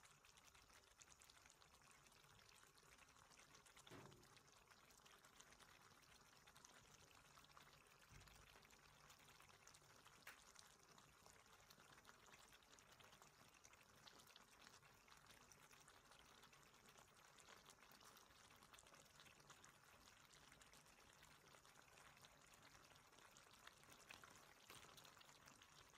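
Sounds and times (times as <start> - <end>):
sauce simmering in a wok: 0.0 - 25.9.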